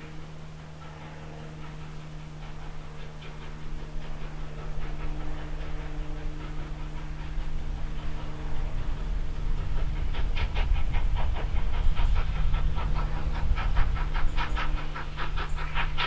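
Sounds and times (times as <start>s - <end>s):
steam locomotive exhaust beats: 0.0s - 16.0s.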